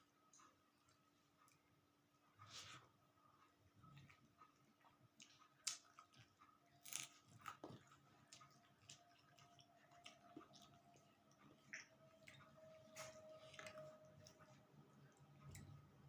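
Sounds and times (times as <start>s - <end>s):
faint chewing and mouth sounds: 0.0s - 16.0s.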